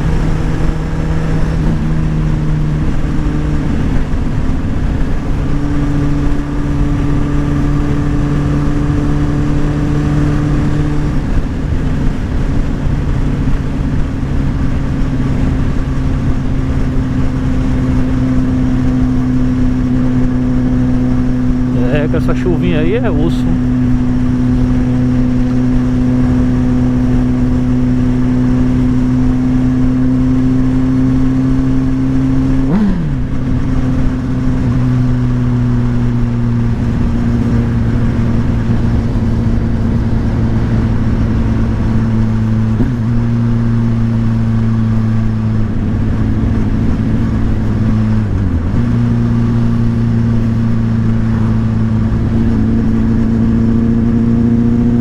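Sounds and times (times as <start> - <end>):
motorcycle engine cruising: 0.0 - 55.0
road and wind noise: 0.0 - 55.0.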